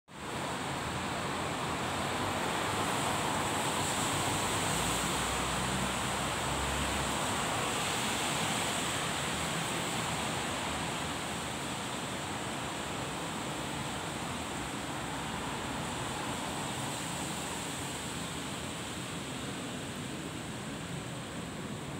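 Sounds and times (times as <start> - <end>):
steady outdoor rushing noise: 0.1 - 21.9.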